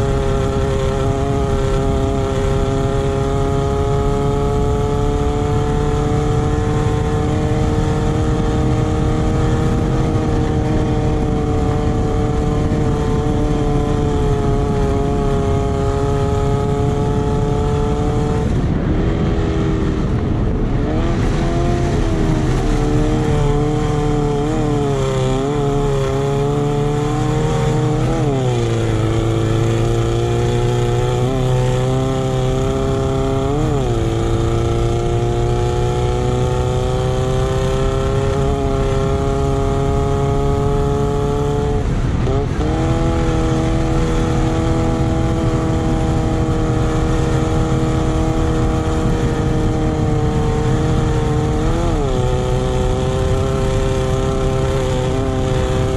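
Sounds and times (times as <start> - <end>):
buggy engine at high revs: 0.0 - 55.9
constant rushing noise: 0.0 - 55.9.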